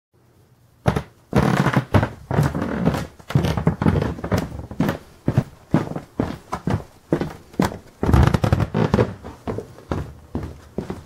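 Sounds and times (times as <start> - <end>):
footsteps on hard floor: 0.9 - 11.0
shoe scuffing: 0.9 - 11.0.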